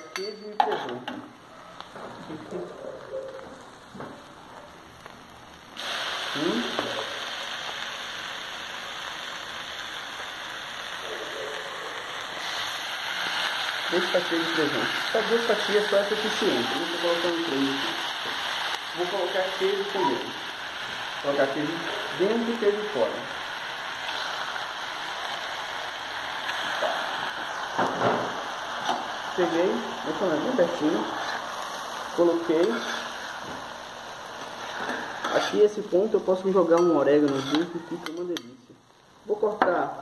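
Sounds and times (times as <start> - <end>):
omelette sizzling on griddle: 1.2 - 40.0.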